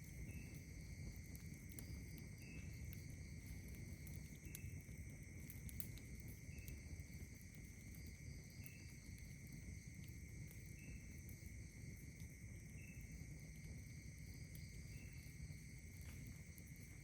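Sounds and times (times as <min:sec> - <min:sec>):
campfire crackling clicks: 0:00.0 - 0:17.0
night insects trilling: 0:00.0 - 0:17.0.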